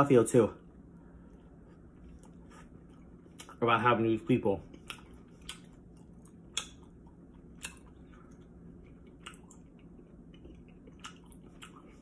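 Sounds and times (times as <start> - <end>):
wet chewing sounds: 1.2 - 3.6, 4.6 - 12.0.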